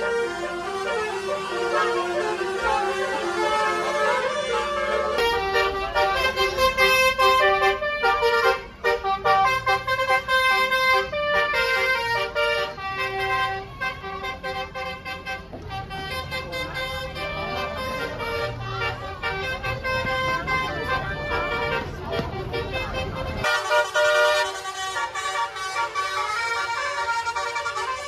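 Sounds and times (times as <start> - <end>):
multi-tone musical bus horn: 0.0 - 28.0.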